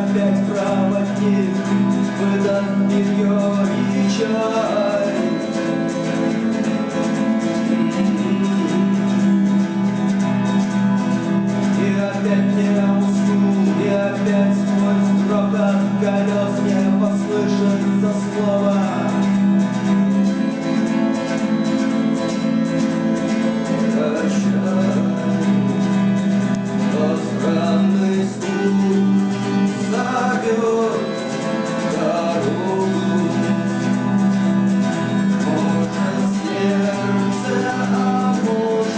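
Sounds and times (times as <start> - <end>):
electric guitar: 0.0 - 38.9.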